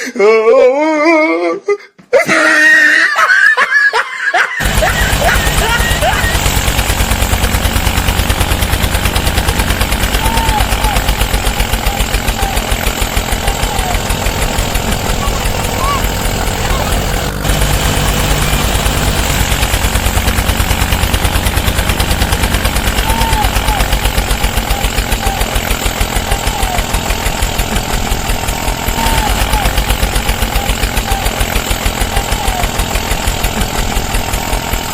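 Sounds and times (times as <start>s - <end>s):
tractor engine thudding: 4.6s - 34.9s.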